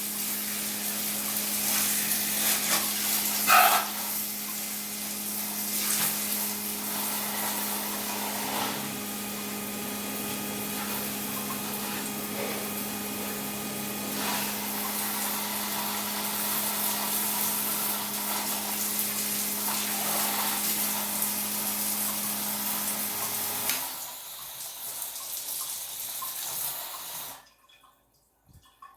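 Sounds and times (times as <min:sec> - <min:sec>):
water gushing and splashing: 0:00.0 - 0:27.8
water pump motor hum: 0:00.0 - 0:27.9.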